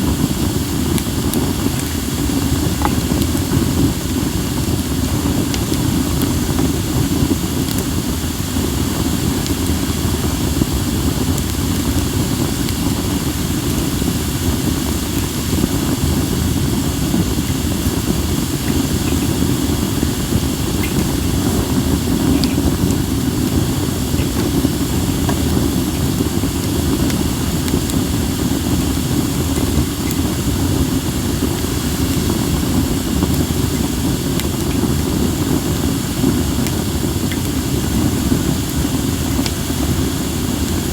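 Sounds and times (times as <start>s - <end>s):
firewood crackling: 0.0s - 40.9s.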